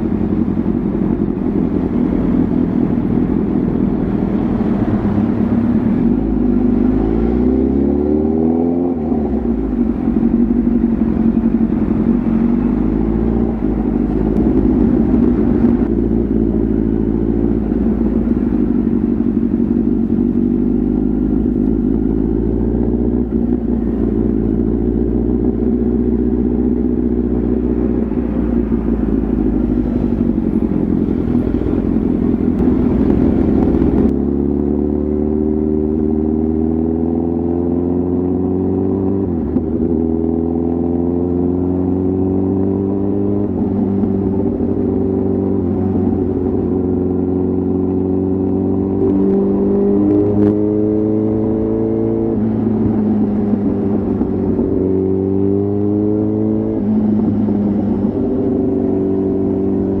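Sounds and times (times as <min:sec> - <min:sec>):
motorcycle engine accelerating: 0:00.0 - 1:00.0.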